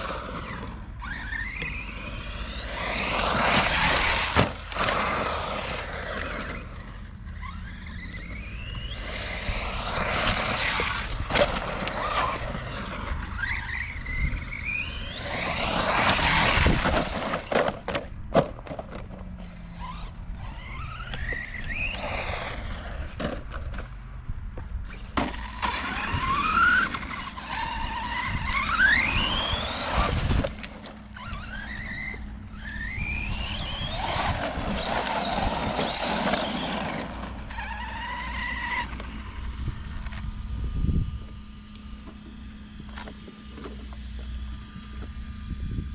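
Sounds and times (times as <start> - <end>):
electric motor whining: 0.0 - 23.8, 24.6 - 45.9
tyres on dirt: 0.0 - 40.5, 41.1 - 45.9.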